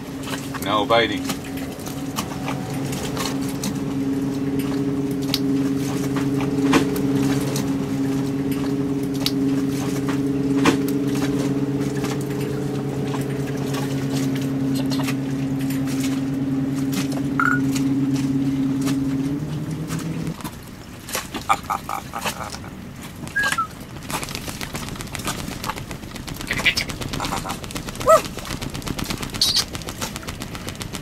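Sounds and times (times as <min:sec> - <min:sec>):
motor hum: 0:00.0 - 0:31.0.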